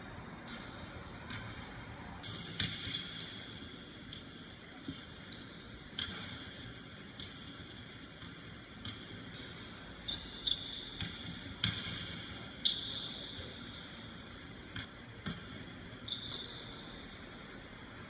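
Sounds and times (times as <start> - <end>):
faint high-pitched whine: 0.0 - 18.0.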